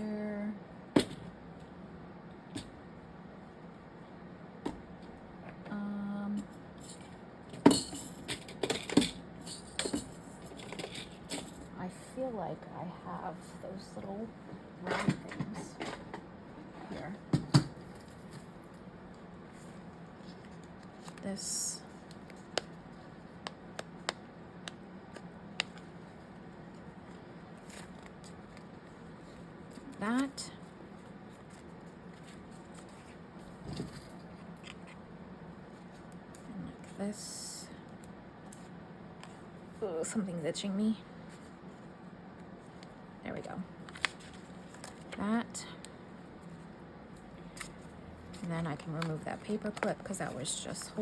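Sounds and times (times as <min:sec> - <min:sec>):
faint room hum: 0:00.0 - 0:51.0.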